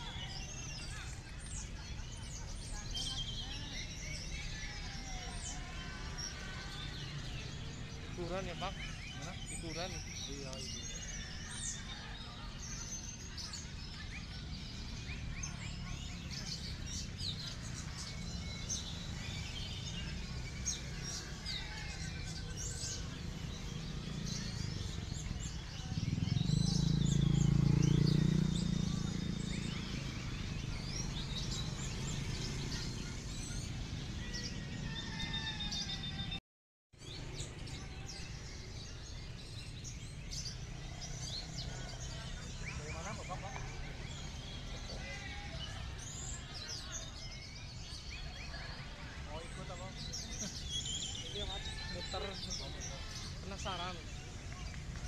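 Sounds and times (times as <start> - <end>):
songbirds singing and chirping: 0.0 - 55.0.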